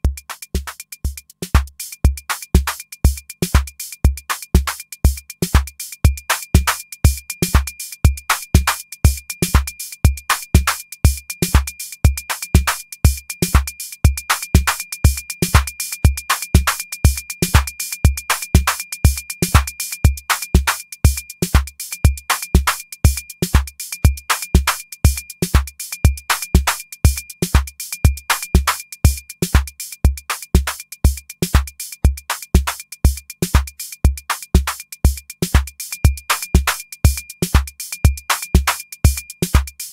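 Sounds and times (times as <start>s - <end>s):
clicky hi-hat hits: 0.0s - 39.9s
drum machine kick: 0.0s - 39.9s.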